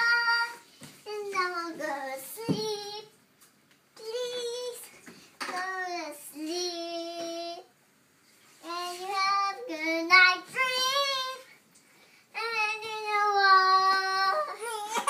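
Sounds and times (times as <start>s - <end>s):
girl singing: 0.0s - 3.2s, 4.0s - 7.8s, 8.6s - 11.6s, 12.3s - 15.0s.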